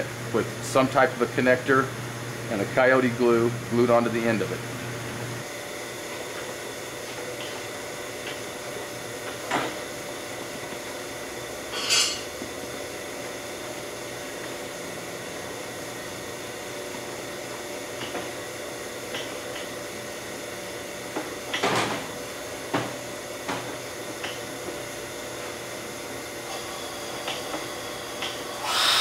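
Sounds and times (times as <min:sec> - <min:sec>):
vacuum system humming: 0:00.0 - 0:29.0.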